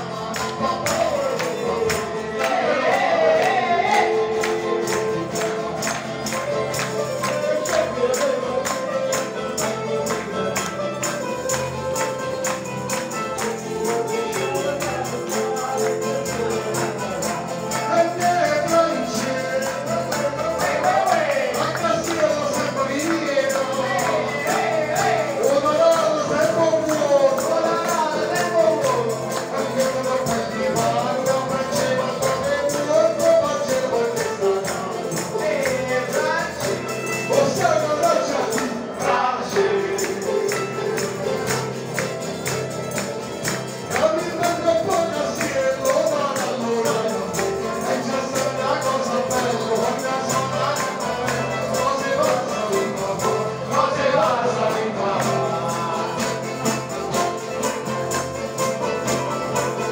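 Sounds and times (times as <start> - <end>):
person singing: 0.0 - 59.9
strummed acoustic guitars: 0.0 - 59.9
tambourine beat: 0.0 - 59.9.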